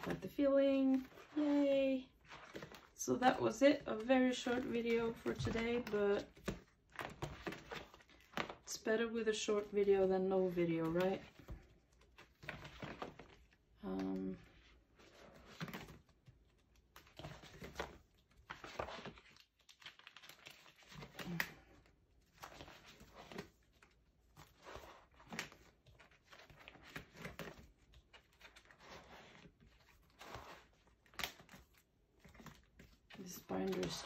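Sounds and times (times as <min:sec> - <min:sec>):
plastic binder pages turning: 0:00.0 - 0:34.0.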